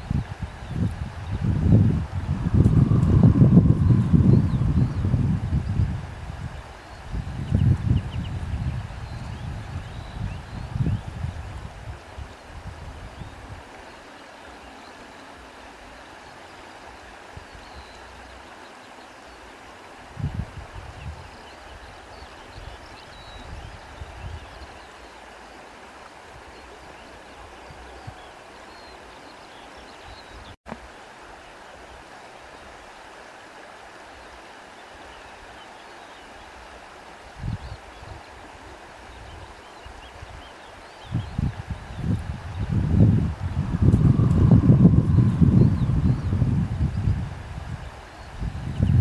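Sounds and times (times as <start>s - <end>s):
rushing water: 0.0s - 49.0s.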